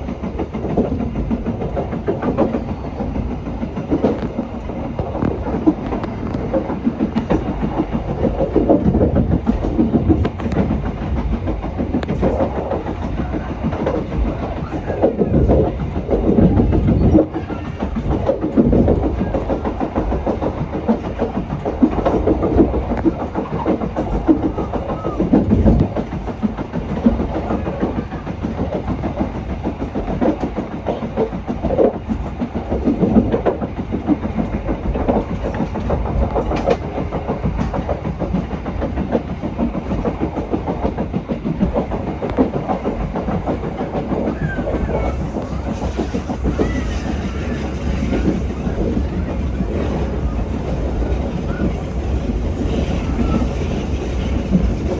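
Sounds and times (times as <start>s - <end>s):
train clattering: 0.0s - 54.9s
train wheels rumbling on rails: 0.0s - 54.9s.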